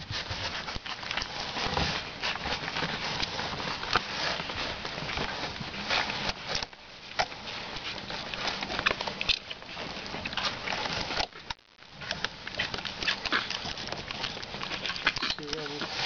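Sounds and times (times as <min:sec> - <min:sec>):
puppies scrabbling in bedding: 0:00.0 - 0:16.0.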